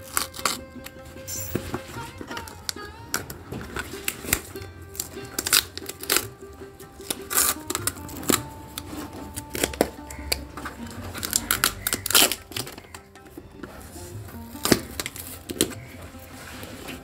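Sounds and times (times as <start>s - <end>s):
background music: 0.0s - 17.0s
package being handled and opened: 0.0s - 17.0s.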